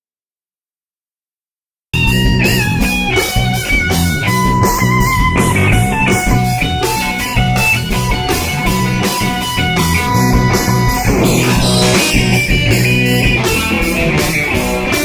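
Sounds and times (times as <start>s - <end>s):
rock music with electric guitar: 2.0s - 15.0s.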